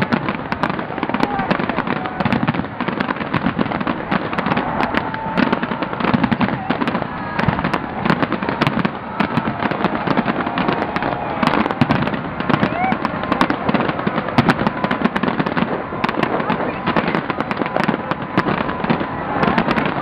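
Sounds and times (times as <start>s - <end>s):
fireworks bangs and crackling: 0.0s - 20.0s
fireworks whistles: 0.0s - 20.0s.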